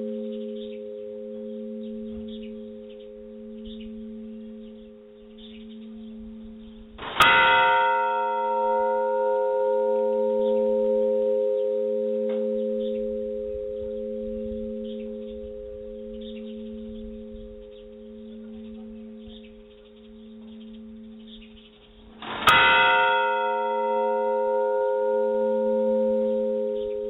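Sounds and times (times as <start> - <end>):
large church bell ringing: 0.0 - 27.0.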